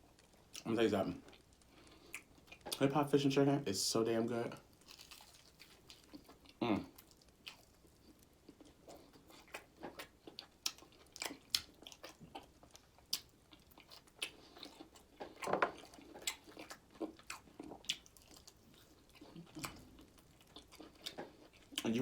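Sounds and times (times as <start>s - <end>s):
chewing crunchy fried chicken: 0.0s - 2.9s, 4.6s - 22.0s.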